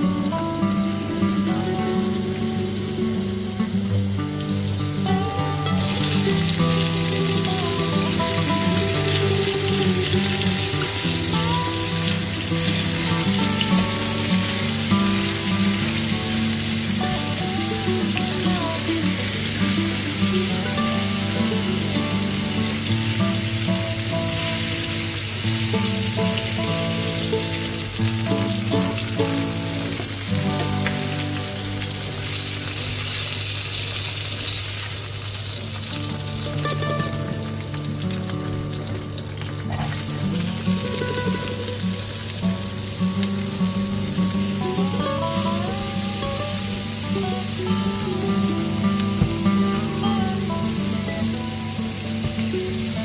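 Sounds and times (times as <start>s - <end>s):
background music: 0.0s - 33.6s, 35.8s - 53.0s
chicken sizzling in oil: 0.0s - 53.0s
onions frying: 0.0s - 53.0s.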